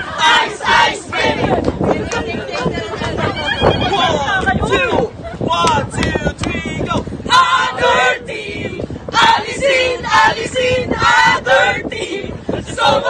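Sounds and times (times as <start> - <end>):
group singing rhythmic phrases: 0.0 - 3.2, 5.8 - 13.0.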